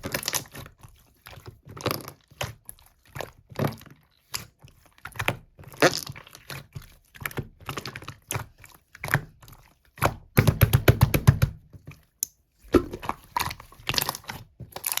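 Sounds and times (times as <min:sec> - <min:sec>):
slime squishing and popping: 0:00.0 - 0:15.0.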